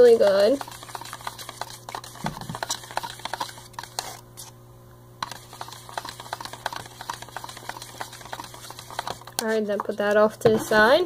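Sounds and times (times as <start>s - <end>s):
spoon stirring in plastic cup: 0.0s - 4.5s, 5.2s - 11.0s.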